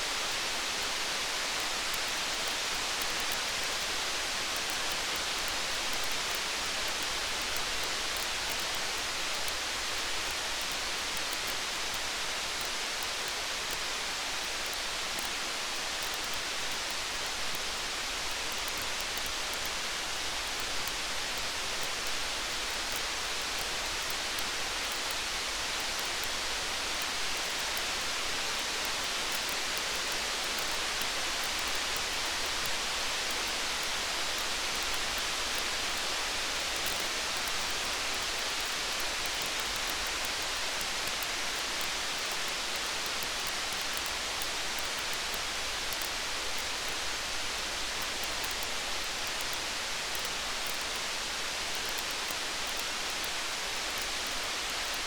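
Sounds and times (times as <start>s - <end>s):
faint high ticks: 0.0s - 55.0s
steady rain: 0.0s - 55.0s.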